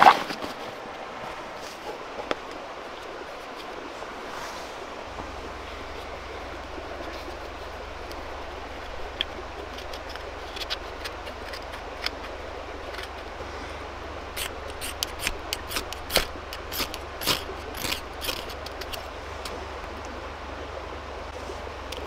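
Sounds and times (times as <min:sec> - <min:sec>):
camping gear being handled: 0:00.0 - 0:13.4, 0:14.3 - 0:19.6
background hiss: 0:00.0 - 0:22.0.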